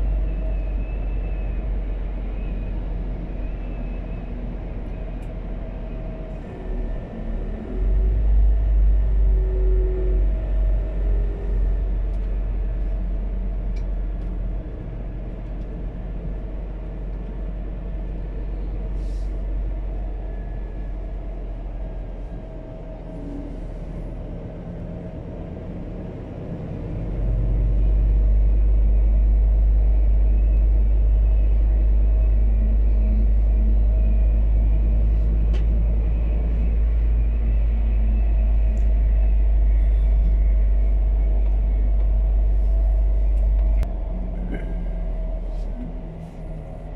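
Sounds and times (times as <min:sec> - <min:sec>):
truck engine and road rumble: 0:00.0 - 0:46.9.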